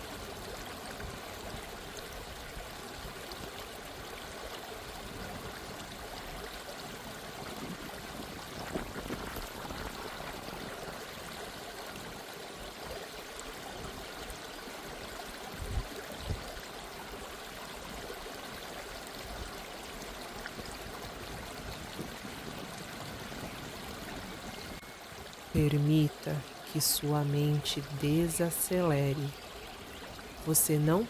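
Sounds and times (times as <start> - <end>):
stream trickling: 0.0 - 31.0.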